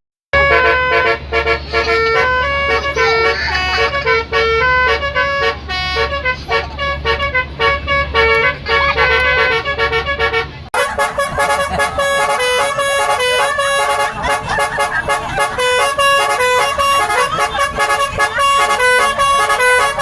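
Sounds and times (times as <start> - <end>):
bus musical horn tune: 0.3 - 20.0.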